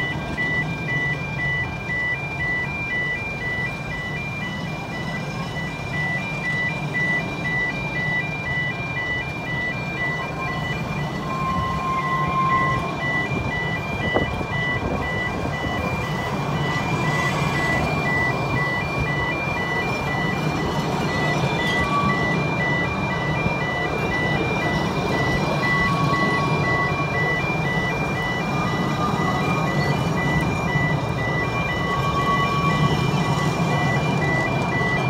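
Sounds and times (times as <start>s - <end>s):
crossing alarm beeping: 0.0s - 35.0s
railway coaches rumbling past: 0.0s - 35.0s.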